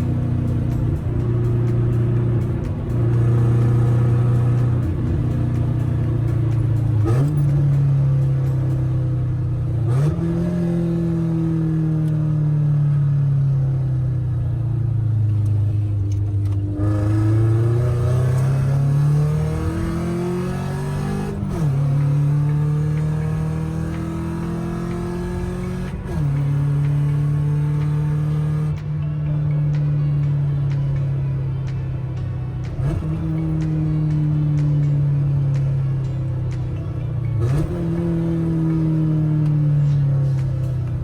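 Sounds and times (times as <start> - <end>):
car engine through straight-pipe exhaust: 0.0 - 41.0.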